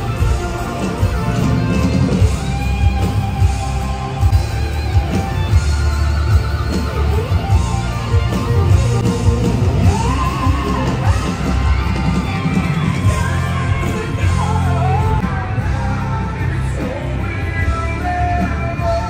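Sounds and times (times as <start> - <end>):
live rock band playing: 0.0 - 19.0
sliding lead melody: 0.0 - 19.0.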